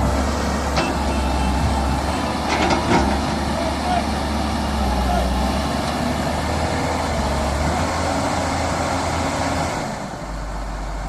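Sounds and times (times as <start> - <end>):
heavy machine engine rumbling: 0.0 - 11.0.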